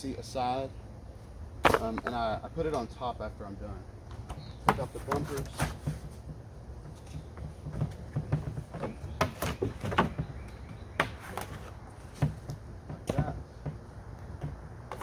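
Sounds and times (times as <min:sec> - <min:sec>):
kayak parts knocking and clattering: 0:01.6 - 0:02.9, 0:04.1 - 0:15.0.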